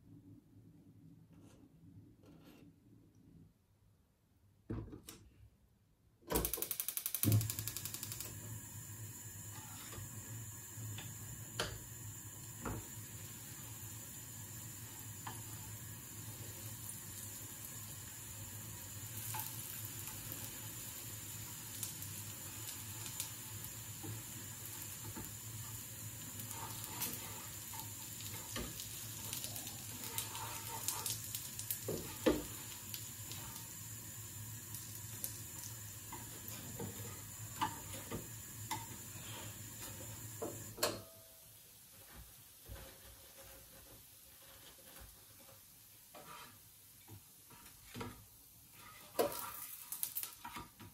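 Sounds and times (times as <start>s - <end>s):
food sizzling in a pan: 6.6s - 50.9s.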